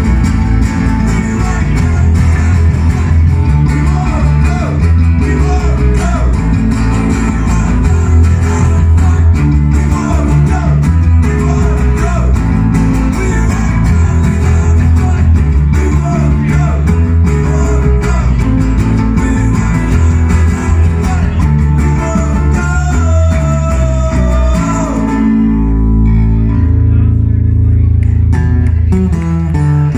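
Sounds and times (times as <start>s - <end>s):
acoustic guitars strumming: 0.0s - 29.9s
electric bass guitar: 0.0s - 29.9s
man singing: 0.7s - 26.6s.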